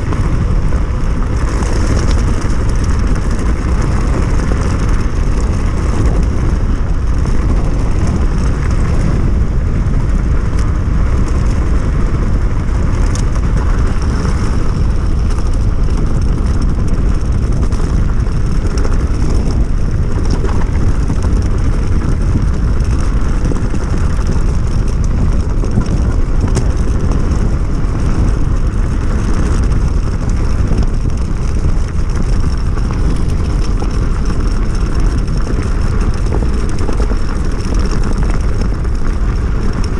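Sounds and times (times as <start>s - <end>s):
electric bike rolling noise: 0.0s - 39.9s
wind rush: 0.0s - 39.9s.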